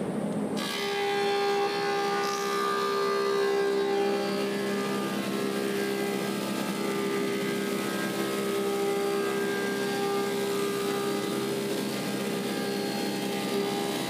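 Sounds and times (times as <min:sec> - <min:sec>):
thickness planer running: 0:00.0 - 0:14.0.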